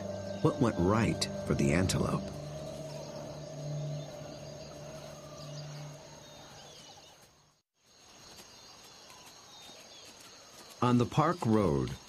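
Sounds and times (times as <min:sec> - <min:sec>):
bird chirps: 0:00.0 - 0:12.0
insect sounds: 0:00.0 - 0:12.0.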